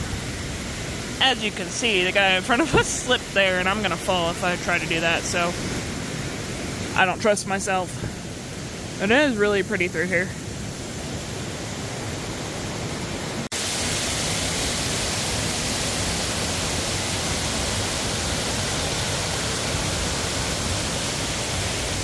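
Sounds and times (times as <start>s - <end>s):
creek rushing over rocks: 0.0s - 22.0s
waterfall cascading: 0.0s - 22.0s.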